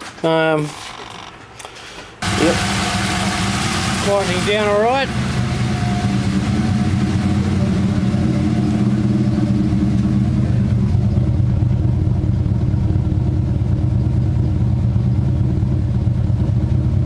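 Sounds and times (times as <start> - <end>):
engine running at raised idle: 2.2 - 17.0.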